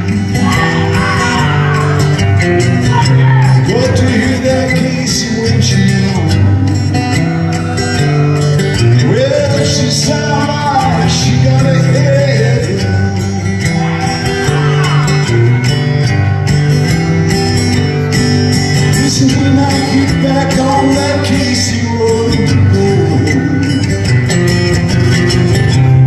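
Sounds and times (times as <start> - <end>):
man singing: 0.0 - 15.8, 18.7 - 26.0
acoustic guitar strummed and picked: 0.0 - 26.0.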